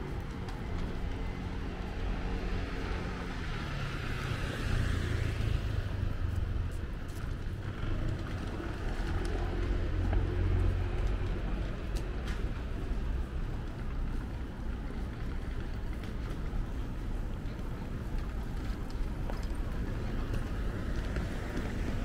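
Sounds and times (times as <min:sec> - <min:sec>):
vehicles passing with engine rumble: 0:00.0 - 0:22.0.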